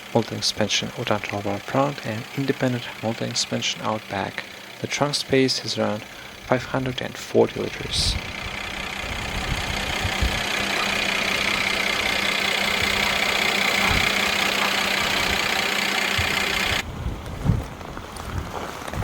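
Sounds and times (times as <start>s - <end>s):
car engine idling: 0.0s - 16.8s.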